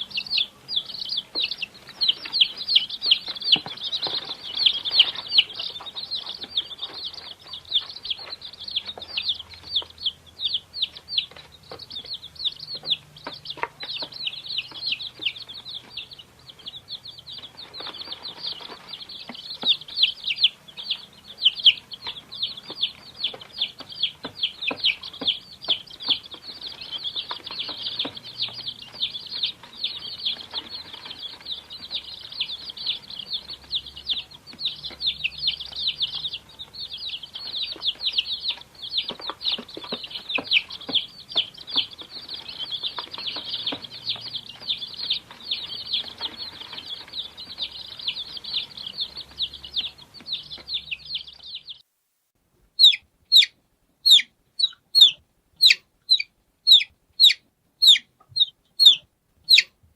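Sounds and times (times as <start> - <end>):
single chick's sharp peeps: 0.0 - 51.8, 52.7 - 59.8
chorus of chicks peeping: 0.0 - 51.9, 52.7 - 59.9.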